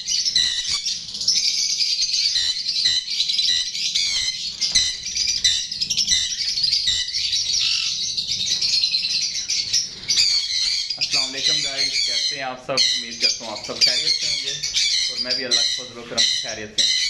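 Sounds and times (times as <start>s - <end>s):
cage birds twittering: 0.0s - 17.0s.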